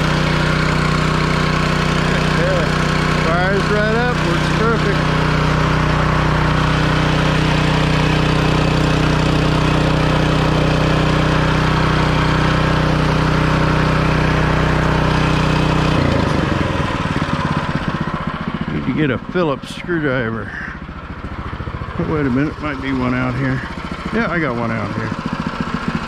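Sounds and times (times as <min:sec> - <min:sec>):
gasoline engine running: 0:00.0 - 0:26.0.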